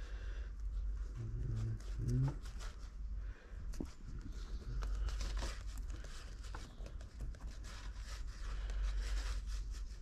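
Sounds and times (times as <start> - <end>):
rustling and crinkling: 0.6 - 10.0.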